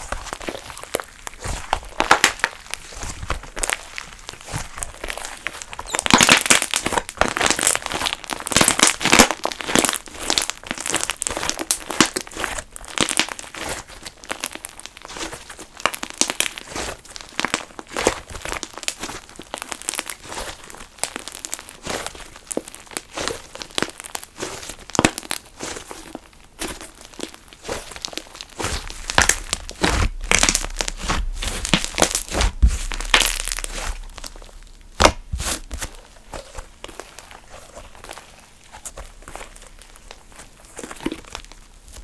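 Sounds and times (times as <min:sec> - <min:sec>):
slime crackling and popping: 0:00.0 - 0:42.0.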